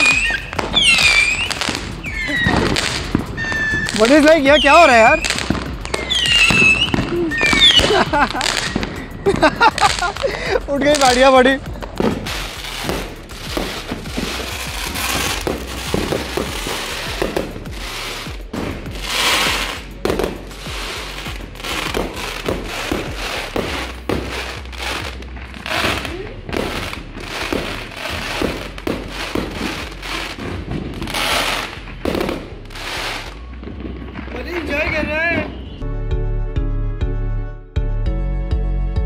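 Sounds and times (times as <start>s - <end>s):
fireworks crackling showers: 0.0s - 35.8s
fireworks pops and bangs: 0.0s - 35.8s.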